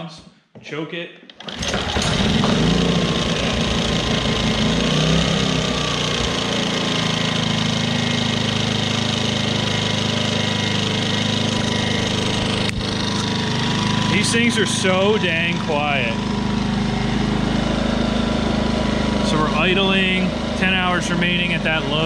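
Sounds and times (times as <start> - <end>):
small generator engine running: 1.4 - 22.0.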